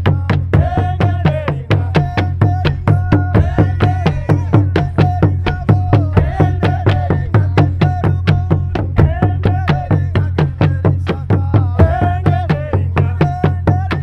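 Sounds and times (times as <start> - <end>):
deep drum boom: 0.0 - 14.0
drums beaten with sticks: 0.0 - 14.0
voices chanting: 0.5 - 10.4, 11.8 - 14.0.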